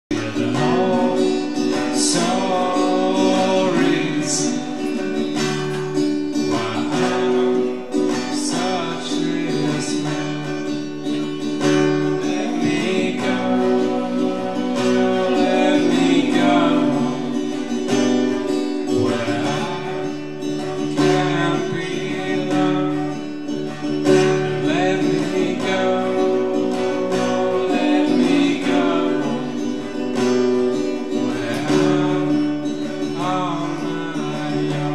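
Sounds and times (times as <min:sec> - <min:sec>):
person singing: 0:00.1 - 0:10.7, 0:11.3 - 0:34.9
acoustic guitar strumming: 0:00.1 - 0:34.9.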